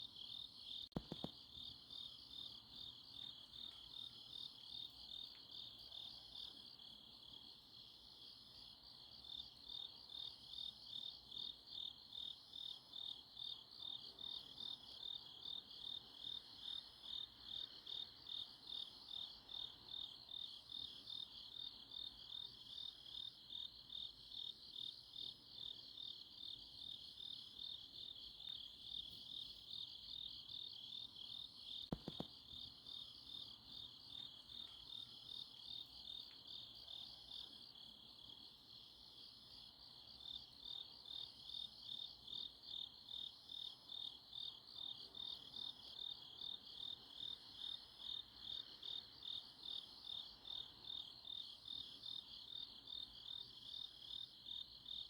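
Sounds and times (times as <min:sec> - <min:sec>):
faint high insect call: 0:00.0 - 0:55.0.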